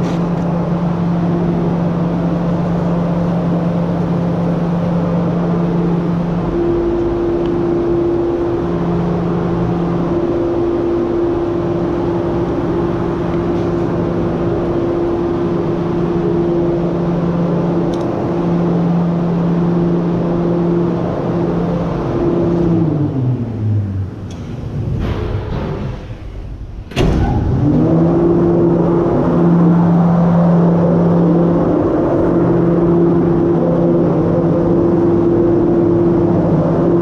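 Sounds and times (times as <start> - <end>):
two-note hum: 0.0 - 24.4, 27.4 - 37.0
large machine running: 0.0 - 37.0.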